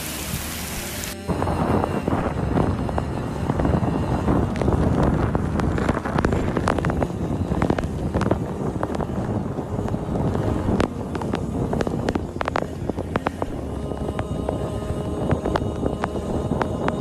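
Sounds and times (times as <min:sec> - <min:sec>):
heavy rain drops: 0:00.0 - 0:17.0
wind and road noise: 0:00.0 - 0:17.0.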